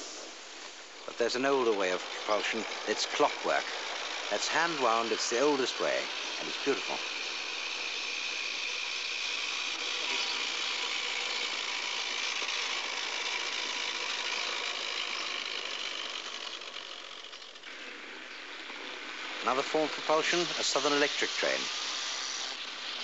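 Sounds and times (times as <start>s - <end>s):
model train wheels rattling: 1.1s - 18.0s, 19.4s - 23.0s
clockwork motor whirr: 1.4s - 17.8s, 19.4s - 23.0s.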